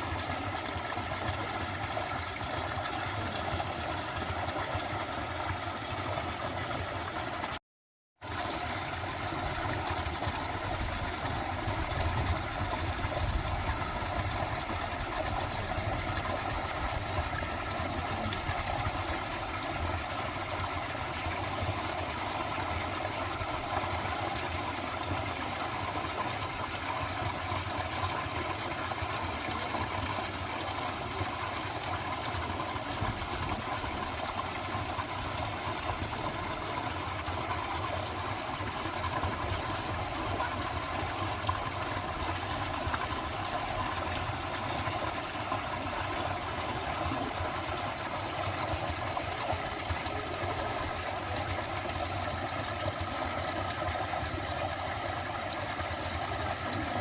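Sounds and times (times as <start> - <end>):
running water: 0.0 - 7.6, 8.2 - 57.0.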